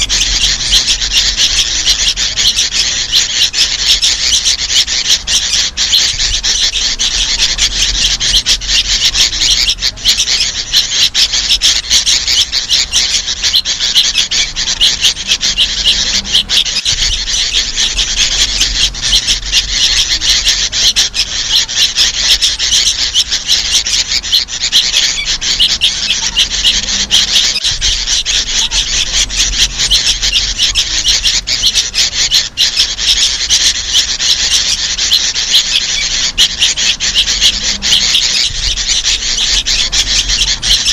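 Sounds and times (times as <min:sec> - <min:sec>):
bulbuls raspy chatter: 0:00.0 - 0:40.9.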